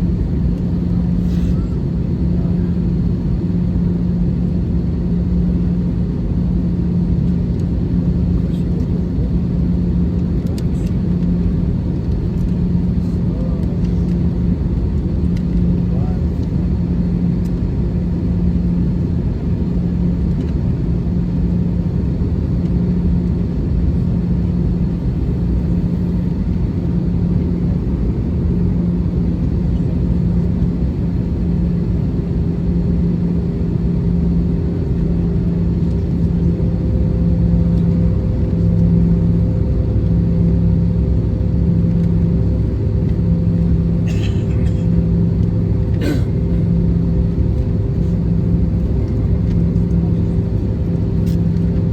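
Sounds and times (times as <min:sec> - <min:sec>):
aircraft cabin engine rumble: 0:00.0 - 0:51.9.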